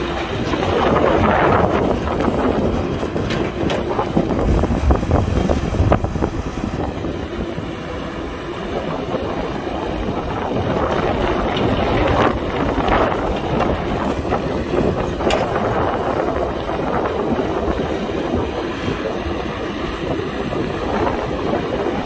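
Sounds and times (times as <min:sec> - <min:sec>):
excavator diesel engine: 0:00.0 - 0:22.0
wind buffeting microphone: 0:00.0 - 0:22.0.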